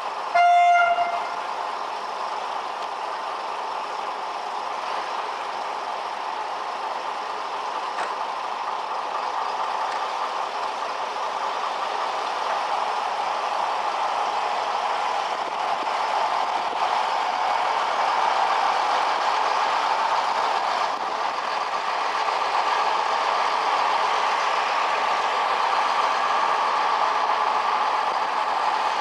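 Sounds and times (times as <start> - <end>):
train engine running: 0.0 - 29.0.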